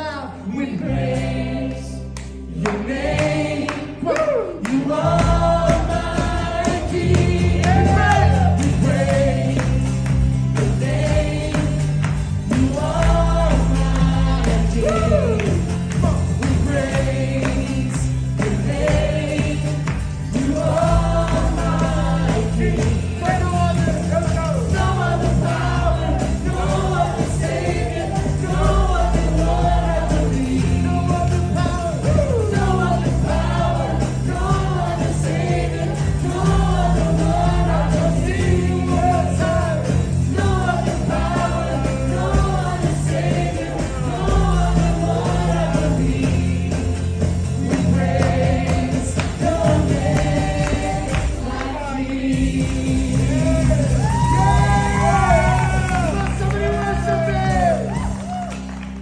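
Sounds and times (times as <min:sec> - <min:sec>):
heavy bass: 0:00.0 - 0:59.0
voices singing gospel music: 0:00.0 - 0:59.0
band playing: 0:02.4 - 0:59.0.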